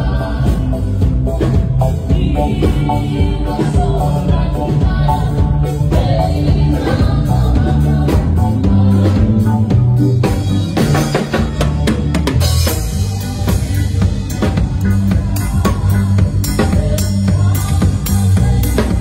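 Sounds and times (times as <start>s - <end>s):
drum kit playing: 0.0s - 19.0s
electric bass line: 0.0s - 19.0s.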